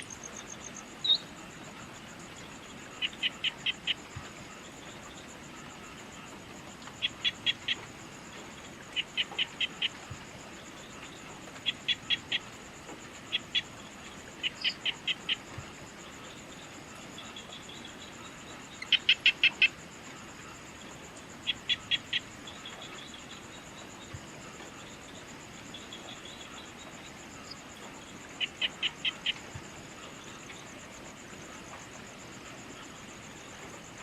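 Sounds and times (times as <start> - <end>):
insects trilling: 0.0 - 34.0.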